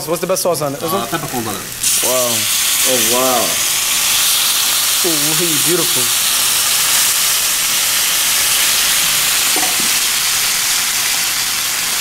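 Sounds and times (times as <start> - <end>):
steak sizzling on hot platter: 0.7 - 12.0.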